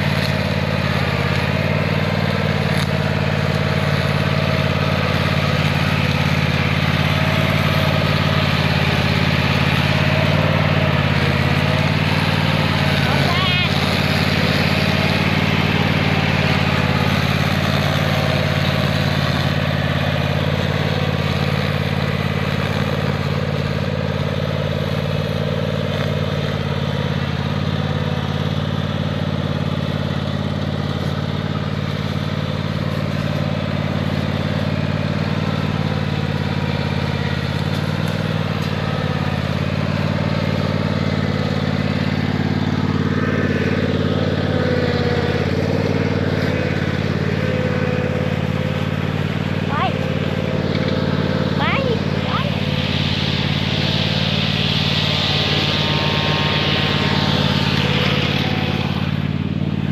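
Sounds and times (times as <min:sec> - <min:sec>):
lawn mower engine running: 0:00.0 - 0:59.9
string trimmer cutting weeds: 0:00.0 - 0:59.9.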